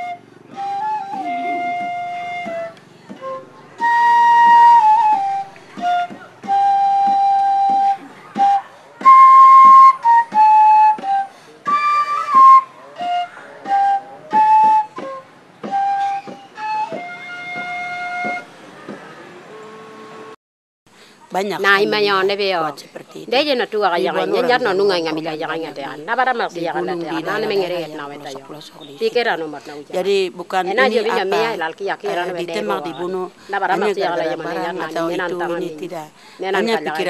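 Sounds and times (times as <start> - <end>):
instrumental melody of held notes: 0.0 - 18.6, 23.9 - 37.0.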